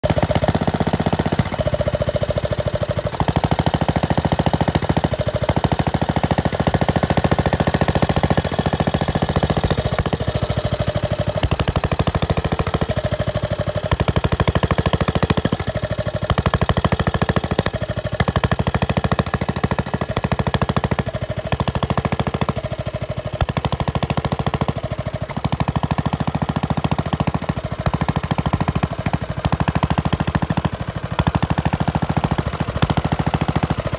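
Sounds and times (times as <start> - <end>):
stationary engine running: 0.0 - 33.9.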